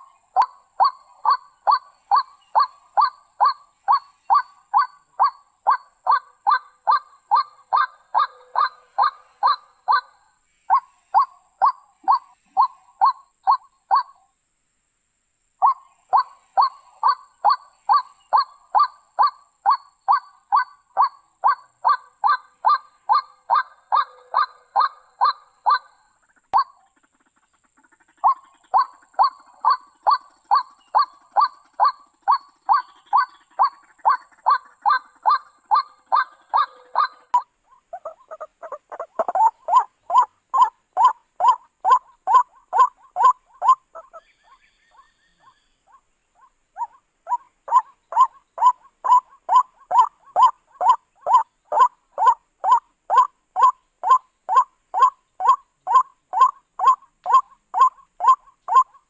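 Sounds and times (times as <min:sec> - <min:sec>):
bird harsh calls: 0:00.0 - 0:14.2, 0:15.6 - 0:59.0.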